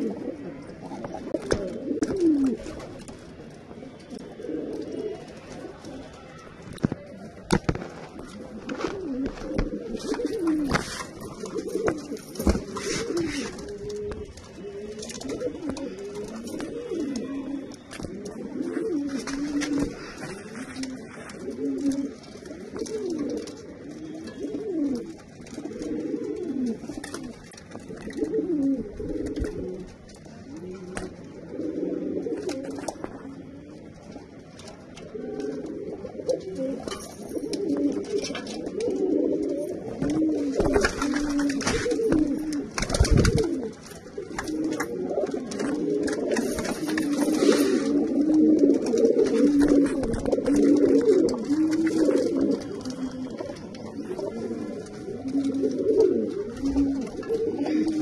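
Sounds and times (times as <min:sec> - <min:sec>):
pigeons cooing: 0:00.0 - 0:58.0.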